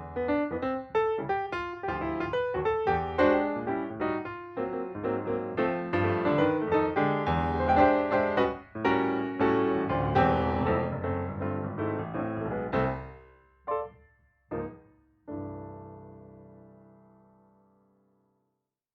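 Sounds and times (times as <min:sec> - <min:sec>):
piano chords: 0:00.0 - 0:17.8.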